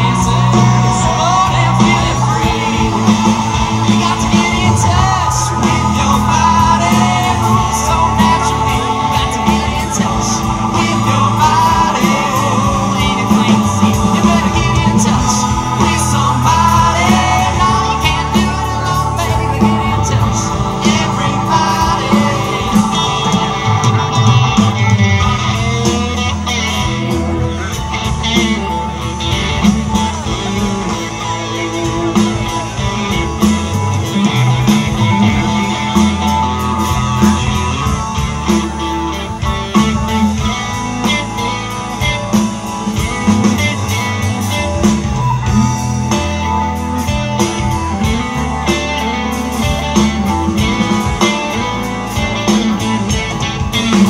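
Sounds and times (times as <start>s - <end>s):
bass guitar: 0.0s - 54.0s
drums: 0.0s - 54.0s
electric guitar: 0.0s - 54.0s
keyboard: 0.0s - 54.0s.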